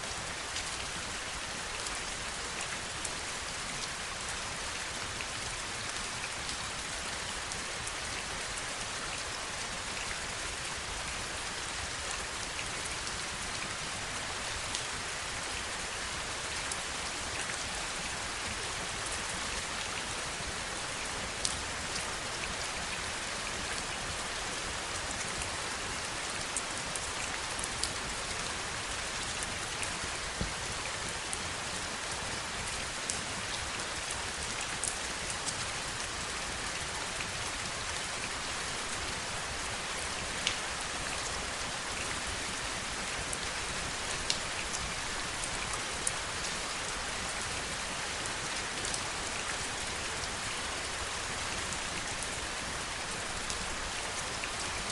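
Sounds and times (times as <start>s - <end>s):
heavy rain falling: 0.1s - 54.9s.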